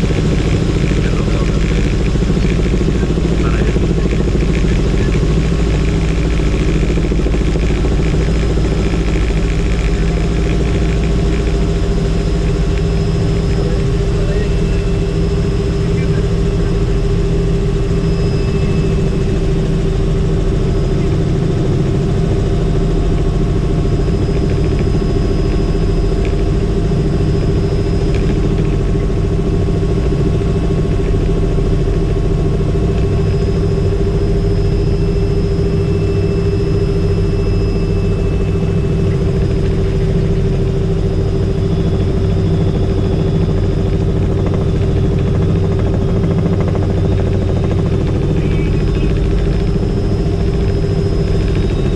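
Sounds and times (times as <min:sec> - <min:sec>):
helicopter engine and rotors: 0:00.0 - 0:51.9.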